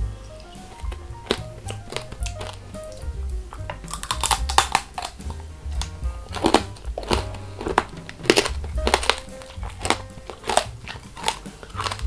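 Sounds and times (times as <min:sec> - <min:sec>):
candy shell crunching while chewing: 0:00.3 - 0:03.0, 0:03.7 - 0:12.0.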